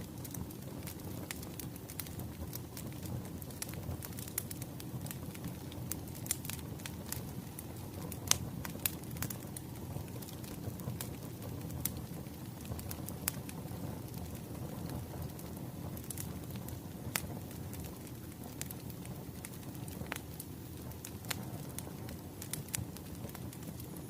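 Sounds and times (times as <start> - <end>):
burning logs popping: 0.0 - 24.0
wood fire crackling: 0.0 - 24.0.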